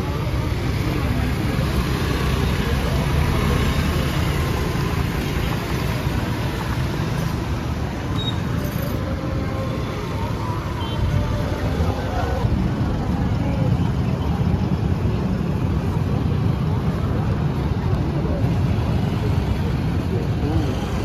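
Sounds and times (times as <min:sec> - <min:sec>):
faint indistinct voices: 0:00.0 - 0:21.0
road traffic rumble: 0:00.0 - 0:21.0.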